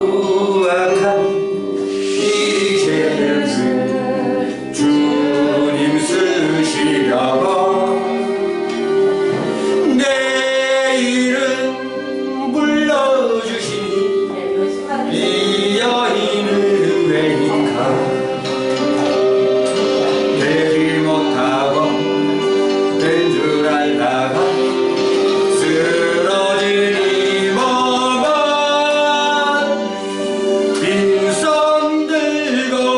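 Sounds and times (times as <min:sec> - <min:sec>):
person singing praise song: 0:00.0 - 0:08.4, 0:09.6 - 0:18.4, 0:19.8 - 0:30.0, 0:30.6 - 0:32.9
instrumental accompaniment: 0:00.0 - 0:32.9.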